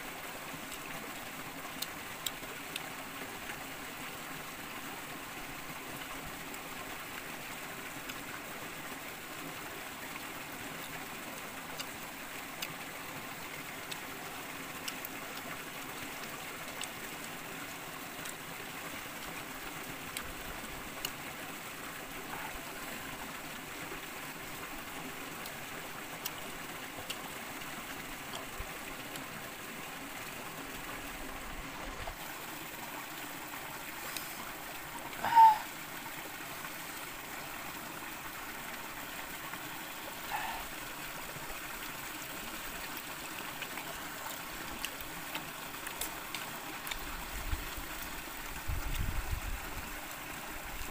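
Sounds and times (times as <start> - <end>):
stream running over rocks: 0.0 - 50.9.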